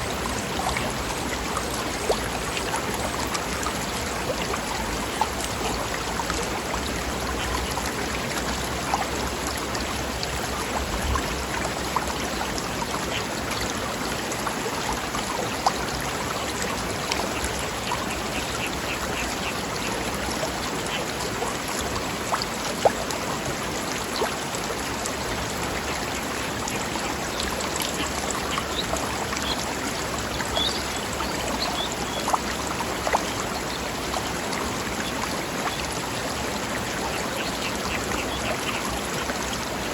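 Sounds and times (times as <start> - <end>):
small water splashes: 0.0 - 39.9
stream babbling over rocks: 0.0 - 39.9.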